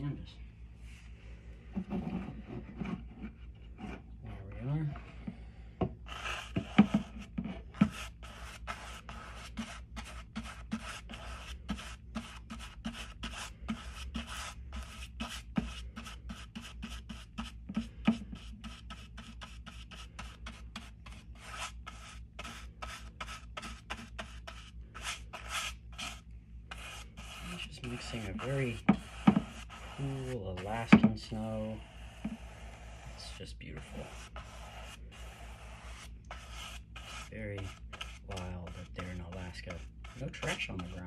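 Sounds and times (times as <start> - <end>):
faint low hum: 0.0 - 41.0
paint scraping on palette: 6.1 - 41.0.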